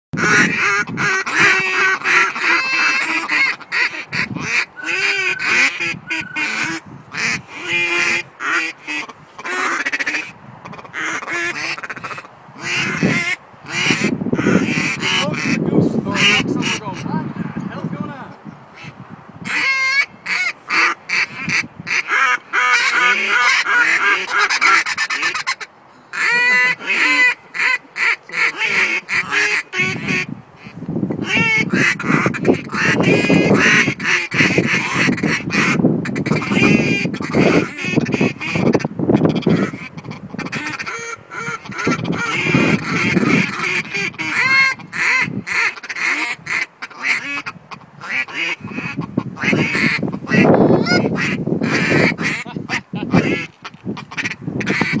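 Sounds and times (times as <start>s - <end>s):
duck and goose calls: 0.2s - 17.4s, 18.8s - 55.0s.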